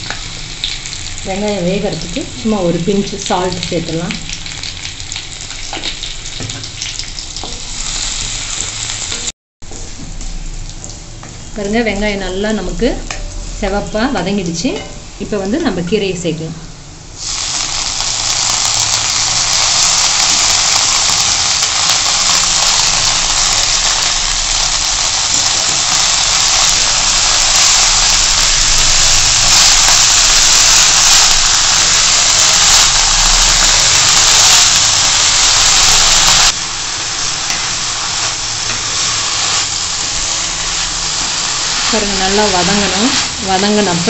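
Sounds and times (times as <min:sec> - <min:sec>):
greens sizzling in hot oil: 0:00.0 - 0:16.2, 0:17.2 - 0:44.0.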